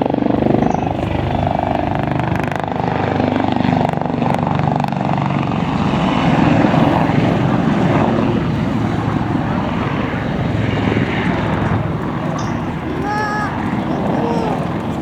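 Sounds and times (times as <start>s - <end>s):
helicopter rotor and engines: 0.0s - 15.0s.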